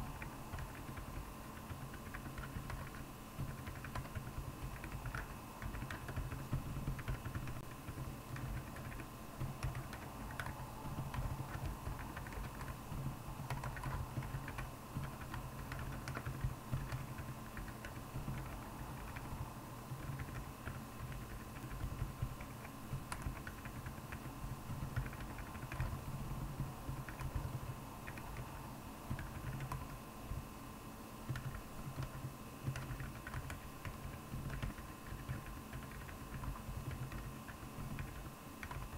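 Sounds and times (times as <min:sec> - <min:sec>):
soft keyboard keystrokes: 0:00.0 - 0:28.5, 0:29.1 - 0:30.4, 0:31.2 - 0:38.9
faint steady hum: 0:00.0 - 0:38.9.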